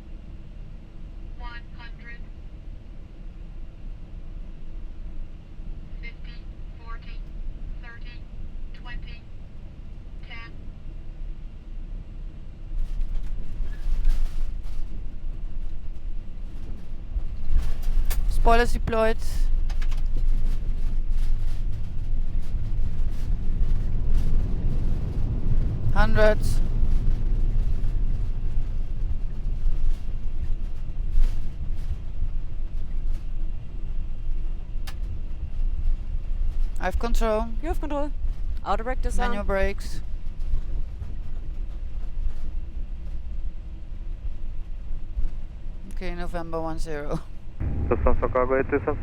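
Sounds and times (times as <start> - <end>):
airplane landing rumble: 0.0 - 49.0.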